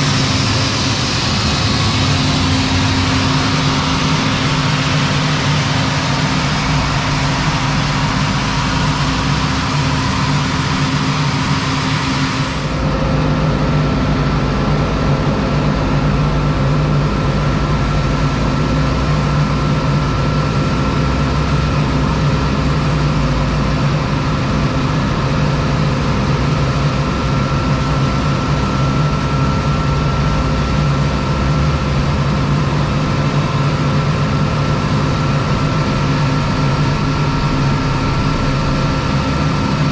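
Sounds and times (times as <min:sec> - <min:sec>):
farm machinery engine drone: 0:00.0 - 0:39.9.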